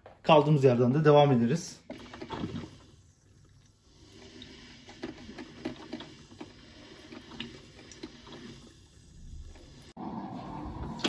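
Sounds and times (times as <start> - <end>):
coffee maker gurgling: 1.7 - 11.0.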